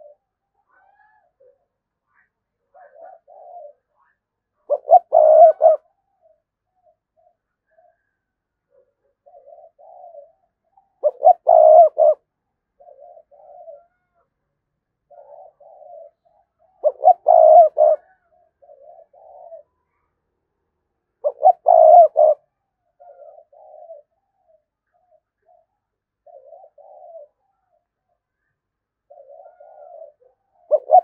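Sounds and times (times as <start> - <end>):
dove cooing: 0.0 - 14.3, 15.0 - 20.0, 21.2 - 31.0.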